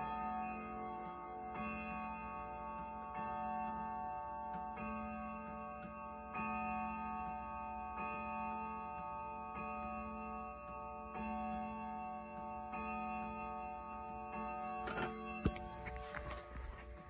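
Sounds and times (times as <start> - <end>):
faint clock ticking: 0.0 - 15.8
clock striking bell-like strokes: 0.0 - 16.8.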